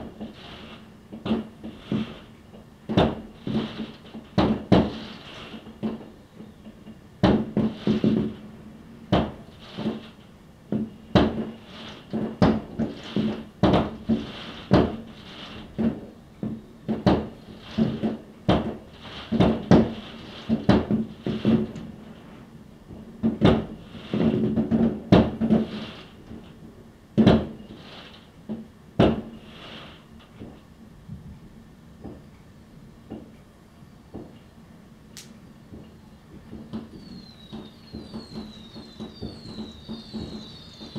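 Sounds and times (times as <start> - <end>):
fireworks bangs: 0.0 - 6.5, 7.2 - 26.6, 27.2 - 30.6, 35.7 - 40.9
fireworks hissing and crackling: 0.0 - 30.6, 35.2 - 40.9.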